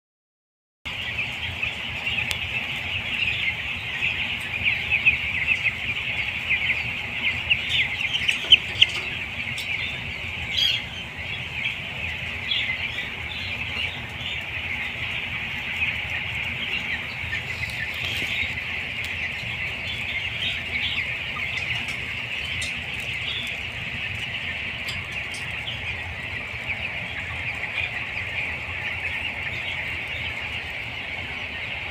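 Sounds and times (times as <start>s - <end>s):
chicks peeping: 0.9s - 31.9s
low steady hum: 0.9s - 31.9s.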